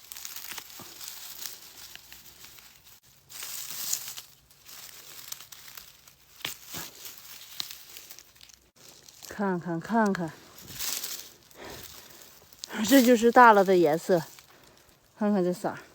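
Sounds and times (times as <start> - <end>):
dry leaves and grass rustling: 0.0 - 15.9.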